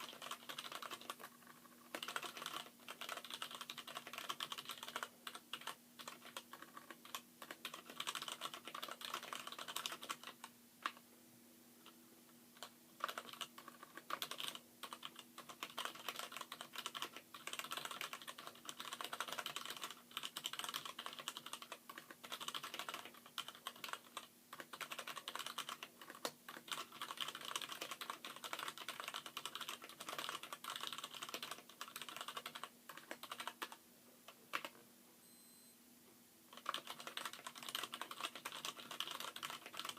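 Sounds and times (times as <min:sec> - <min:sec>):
mechanical keyboard typing: 0:00.0 - 0:11.0, 0:12.6 - 0:33.8, 0:34.5 - 0:34.8, 0:36.5 - 0:39.9.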